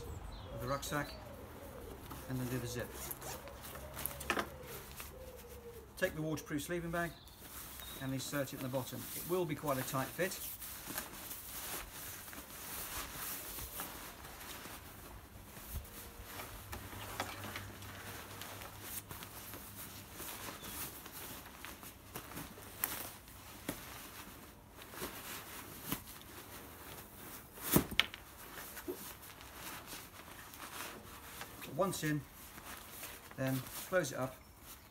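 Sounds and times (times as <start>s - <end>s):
nylon rustling and scuffing: 1.6s - 6.0s, 6.8s - 34.9s.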